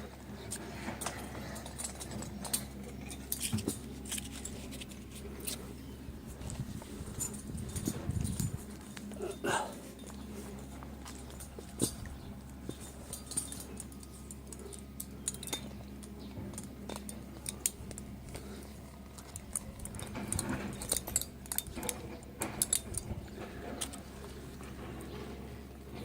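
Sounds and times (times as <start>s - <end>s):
steady low hum: 0.0s - 26.0s
light metallic clinks and rattles: 0.2s - 26.0s.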